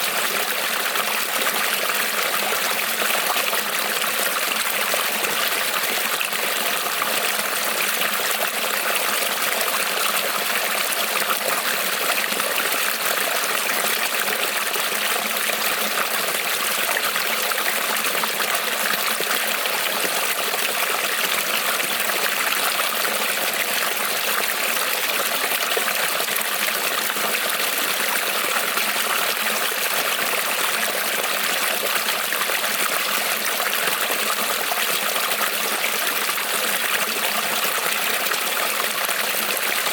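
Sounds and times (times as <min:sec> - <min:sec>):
creek water rippling over stones: 0:00.0 - 0:39.9.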